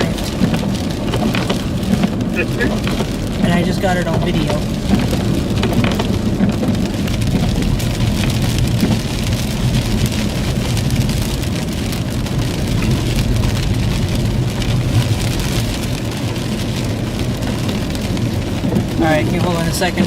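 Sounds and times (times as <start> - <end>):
idling vehicle hum: 0.0 - 20.0
sleet pattering on vehicle: 0.0 - 20.0.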